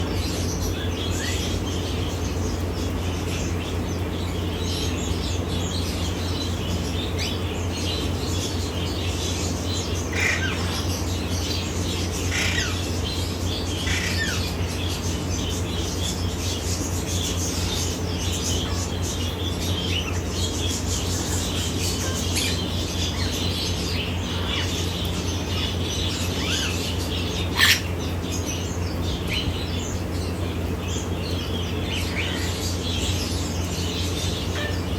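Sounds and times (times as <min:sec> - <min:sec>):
steady low hum: 0:00.0 - 0:34.9
parrot chirping and squawking: 0:06.3 - 0:34.9.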